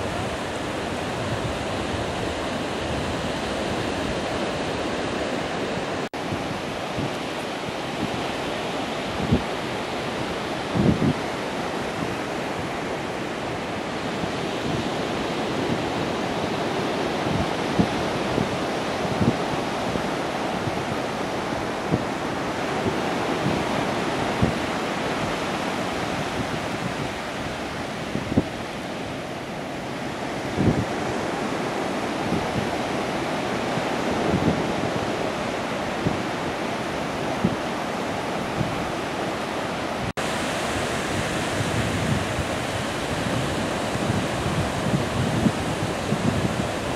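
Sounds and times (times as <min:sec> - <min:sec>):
surf washing onto sandy beach: 0:00.0 - 0:46.9
wind buffeting microphone: 0:00.0 - 0:46.9.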